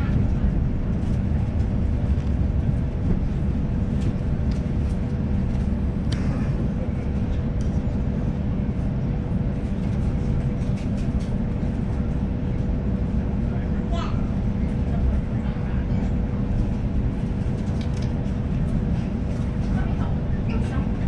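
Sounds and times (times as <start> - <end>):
electric train rumble and hum: 0.0 - 21.0.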